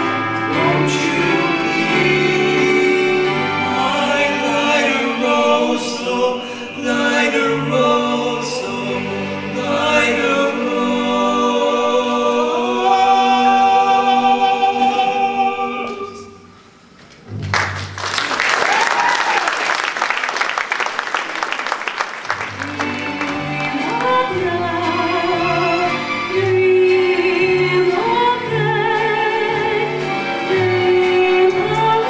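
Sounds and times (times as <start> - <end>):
male quartet singing in harmony: 0.0 - 16.6, 22.4 - 32.0.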